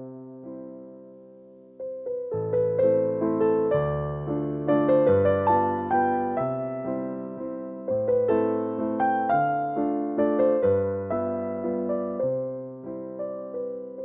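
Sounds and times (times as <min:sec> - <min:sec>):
gentle piano piece: 0:00.0 - 0:14.0.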